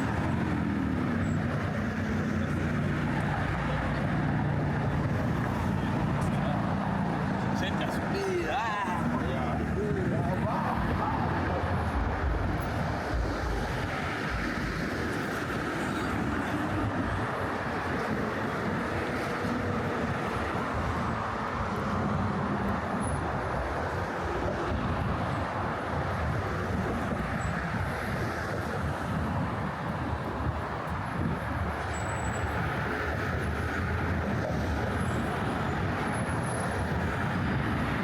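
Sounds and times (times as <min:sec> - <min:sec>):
traffic rumble on bridge: 0:00.0 - 0:38.0.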